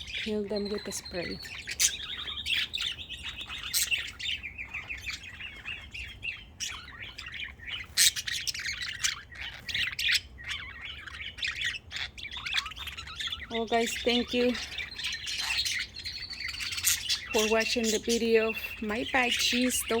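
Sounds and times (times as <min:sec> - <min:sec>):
budgerigars chattering and warbling: 0:00.0 - 0:20.0
squawky bird calls: 0:00.0 - 0:20.0.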